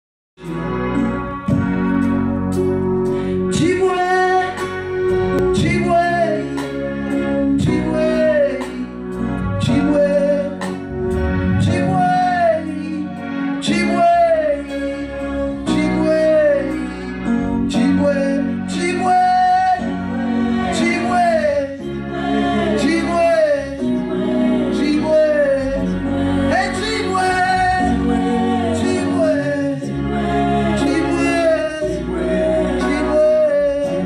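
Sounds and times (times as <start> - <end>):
keyboard chords: 0.4 - 34.0.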